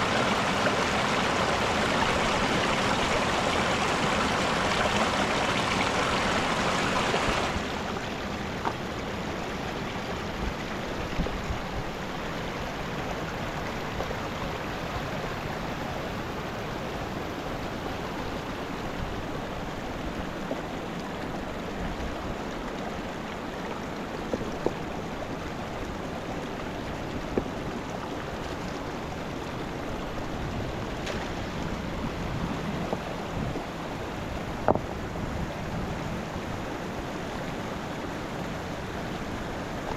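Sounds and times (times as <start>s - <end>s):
mountain river rushing: 0.0s - 39.9s.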